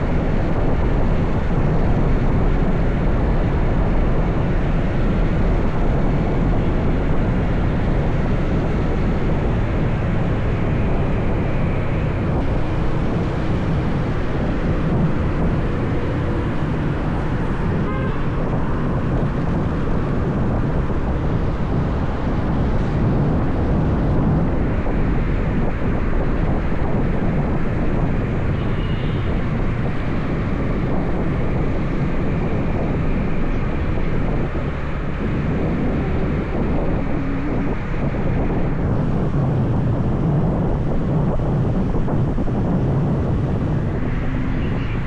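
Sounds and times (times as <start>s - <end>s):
motorbike engine rumble: 0.0s - 45.0s
road noise: 0.0s - 45.0s
wind rushing over microphone: 0.0s - 45.0s.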